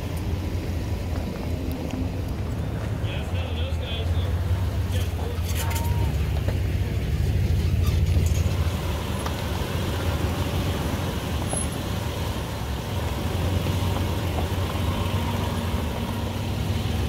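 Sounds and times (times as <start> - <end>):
off-road vehicle engines rumbling: 0.0 - 17.0.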